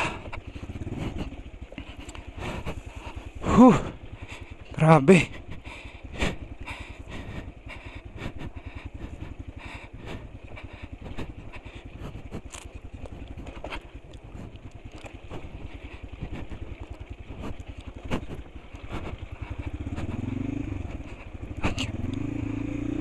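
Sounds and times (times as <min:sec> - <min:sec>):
knocks and clatter on rough road: 0:00.0 - 0:23.0
motorcycle engine puttering: 0:00.0 - 0:23.0.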